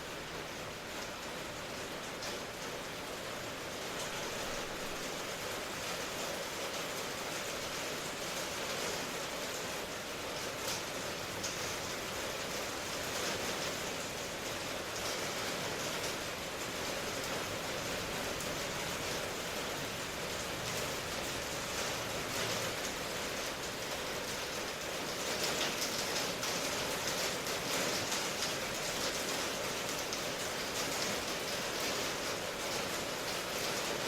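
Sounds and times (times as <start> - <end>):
raindrops pattering on surface: 0.0 - 34.0
steady rain hiss: 0.0 - 34.0.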